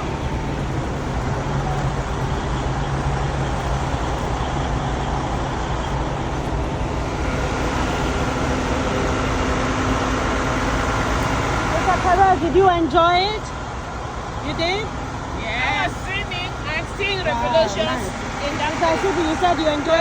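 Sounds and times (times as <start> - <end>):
low engine drone: 0.0 - 20.0
traffic noise: 0.0 - 20.0.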